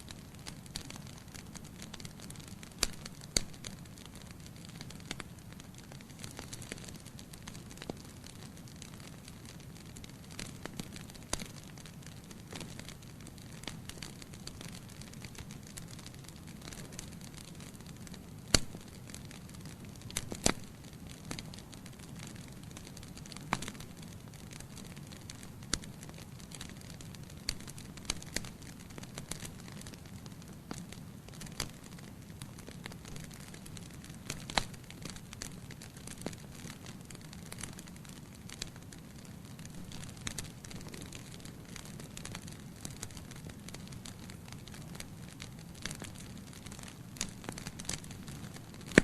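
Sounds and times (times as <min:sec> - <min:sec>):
logs burning with crackles: 0:00.0 - 0:49.0
loud fire pops: 0:00.4 - 0:49.0.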